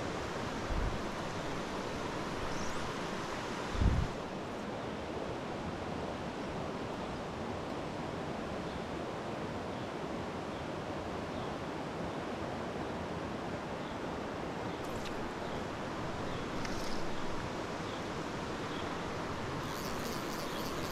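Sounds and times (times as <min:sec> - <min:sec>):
stream flowing: 0:00.0 - 0:10.2, 0:13.0 - 0:20.9.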